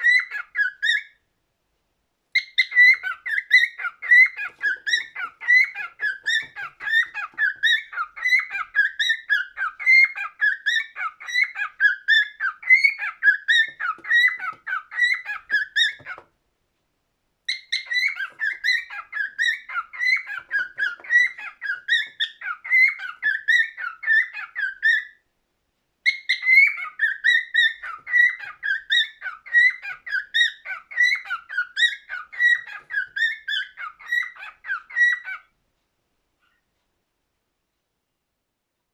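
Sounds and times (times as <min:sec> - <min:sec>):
cockatiel singing: 0:00.0 - 0:01.3, 0:02.3 - 0:16.3, 0:17.4 - 0:25.3, 0:26.0 - 0:35.6.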